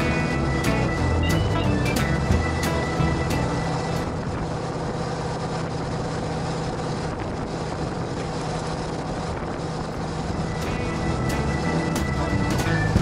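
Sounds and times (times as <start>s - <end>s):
road noise: 0.0s - 13.0s
truck engine drone: 0.0s - 13.0s
wind rushing: 0.0s - 13.0s.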